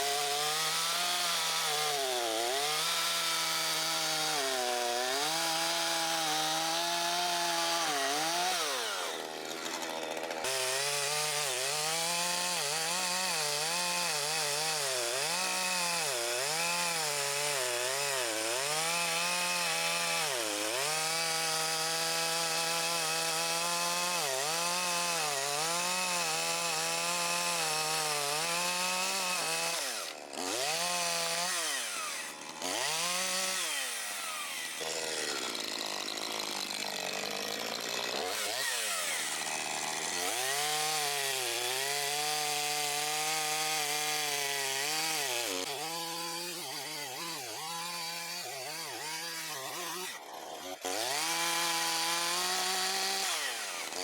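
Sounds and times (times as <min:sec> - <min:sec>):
chainsaw cutting at high revs: 0:00.0 - 0:54.0.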